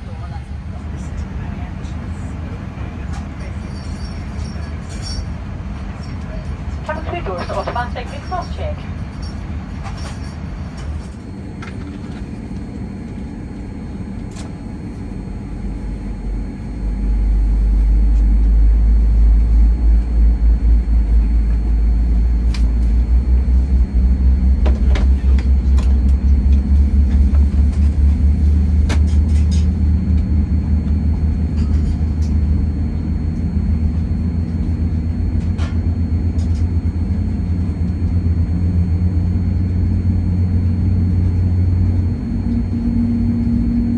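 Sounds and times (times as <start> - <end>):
low aircraft cabin rumble: 0.0 - 43.9.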